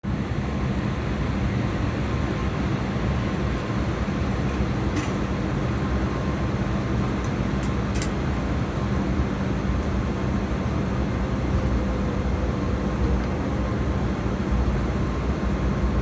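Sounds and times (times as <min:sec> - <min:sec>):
jet engine cabin noise: 0:00.1 - 0:16.0.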